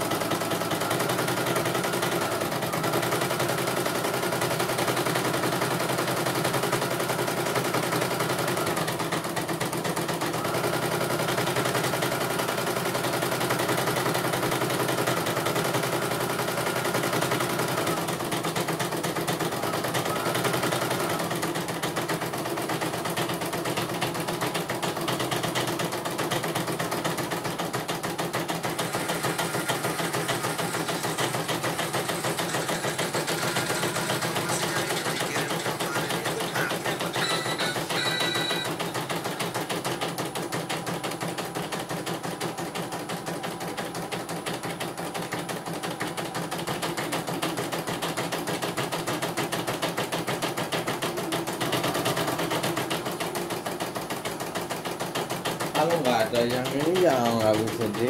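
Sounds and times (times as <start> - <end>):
embroidery machine needle clatter: 0.0 - 58.0.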